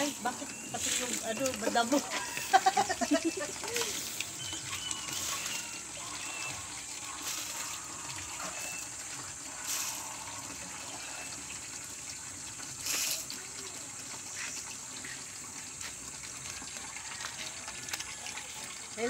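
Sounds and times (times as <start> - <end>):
water pouring from watering can: 0.0 - 19.0.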